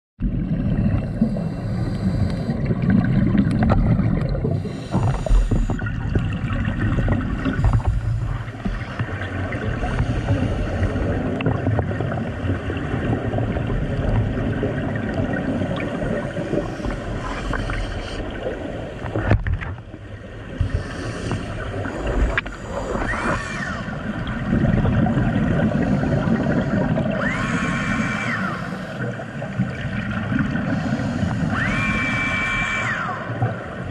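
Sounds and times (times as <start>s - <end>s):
underwater regulator bubbles: 0.2s - 33.9s.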